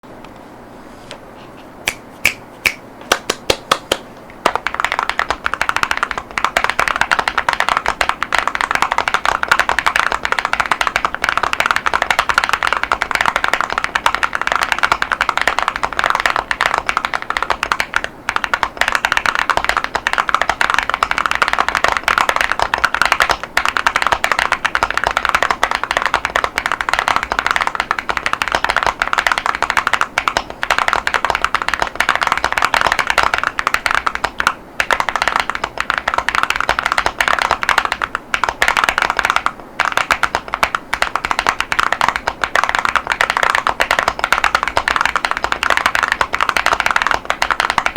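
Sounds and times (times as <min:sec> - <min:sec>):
typing on a mechanical keyboard: 0:03.5 - 0:47.9.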